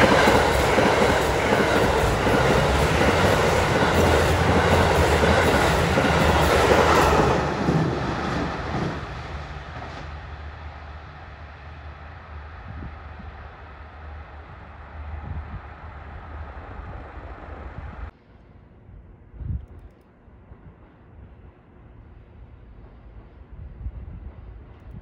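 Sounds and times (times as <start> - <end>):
train wheel noise: 0.0 - 18.2, 19.0 - 25.0
diesel train engine hum: 0.0 - 25.0.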